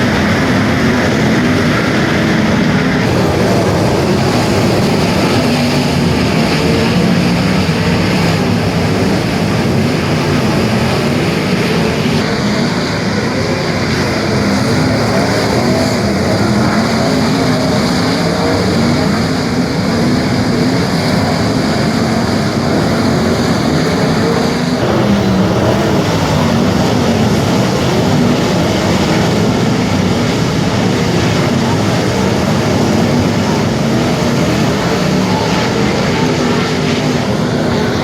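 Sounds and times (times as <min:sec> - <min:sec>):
race car engines racing: 0:00.0 - 0:38.0.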